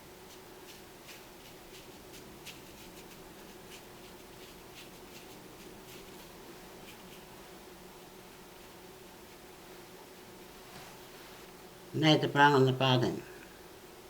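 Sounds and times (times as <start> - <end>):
paint brush strokes on paper: 0.0 - 11.6
low room hum: 0.0 - 14.0.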